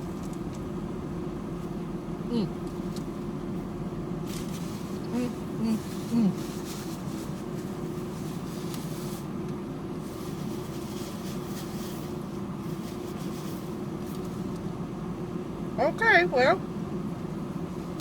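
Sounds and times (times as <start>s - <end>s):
car engine running: 0.0s - 18.0s
ventilation fan hum: 0.0s - 18.0s.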